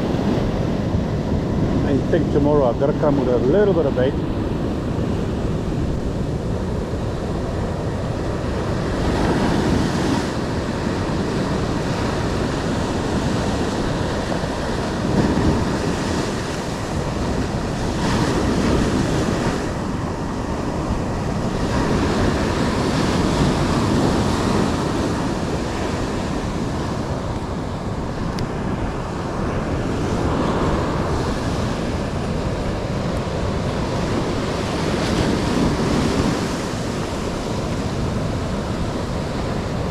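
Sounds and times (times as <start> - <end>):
ocean surf washing onto beach: 0.0 - 39.9
wind rumbling on microphone: 0.0 - 39.9.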